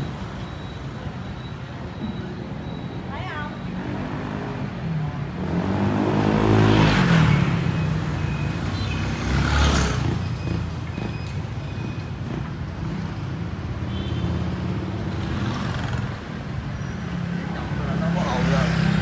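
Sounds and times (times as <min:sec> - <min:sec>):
small motorbikes in street traffic: 0:00.0 - 0:19.0.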